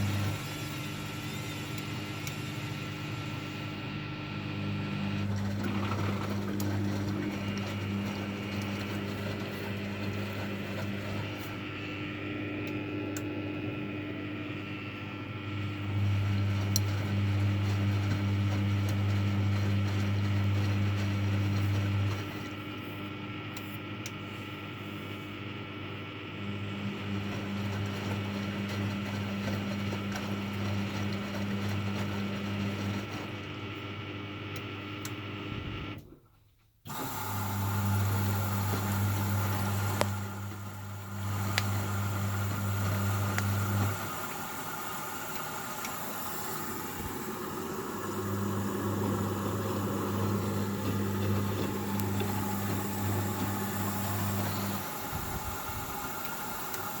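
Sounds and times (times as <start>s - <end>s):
faint mechanical churn: 0.0s - 57.0s
washing machine motor humming: 0.0s - 57.0s.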